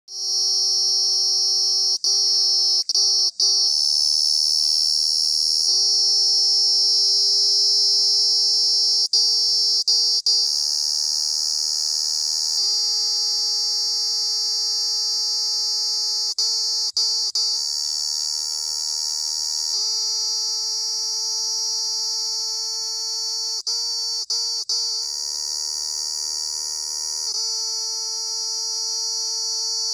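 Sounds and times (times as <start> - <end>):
cicada buzzing: 0.1 - 29.9.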